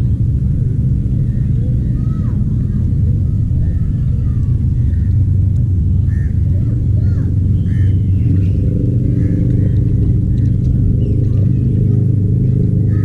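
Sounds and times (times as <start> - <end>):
loud low rumble: 0.0 - 13.0
low steady hum: 0.0 - 13.0
small birds chirping: 1.0 - 13.0.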